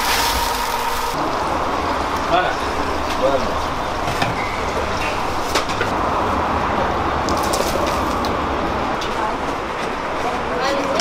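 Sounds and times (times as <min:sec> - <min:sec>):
low hum: 0:00.0 - 0:10.1
steady rushing noise: 0:00.0 - 0:11.0.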